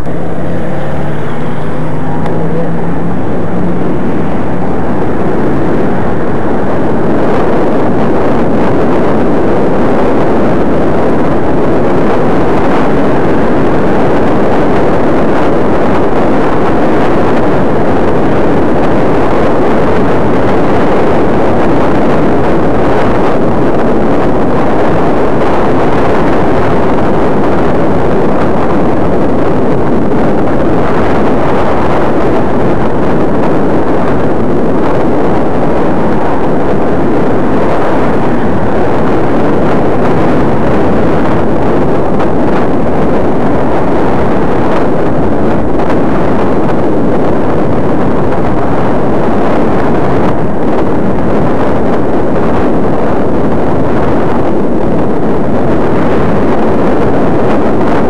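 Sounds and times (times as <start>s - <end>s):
low steady hum: 0.0s - 51.6s
road and traffic noise: 0.0s - 58.0s
wind buffeting microphone: 0.0s - 58.0s.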